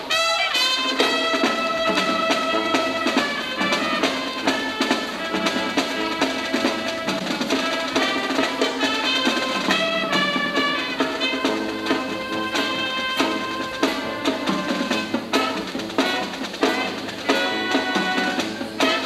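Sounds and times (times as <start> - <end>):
marching band playing: 0.0 - 19.0
drum hits: 0.8 - 19.0.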